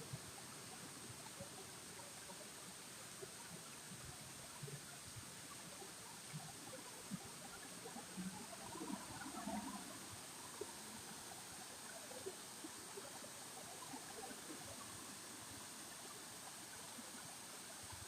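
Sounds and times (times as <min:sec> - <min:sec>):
running water: 0:00.0 - 0:18.0.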